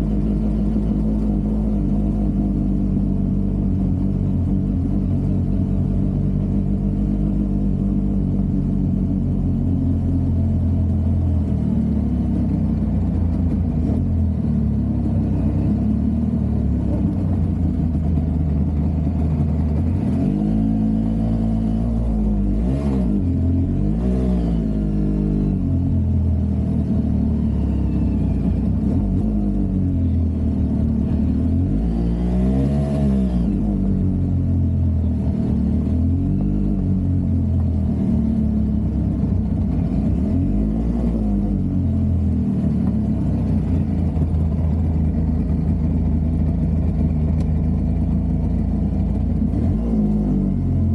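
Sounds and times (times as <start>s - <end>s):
motorcycle engine rumbling: 0.0s - 50.9s.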